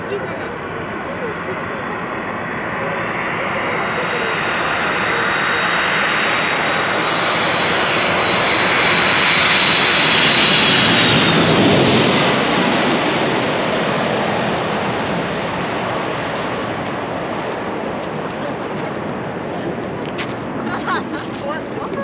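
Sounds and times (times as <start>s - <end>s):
airliner engine noise overhead: 0.0s - 22.0s
high engine whine: 0.0s - 22.0s.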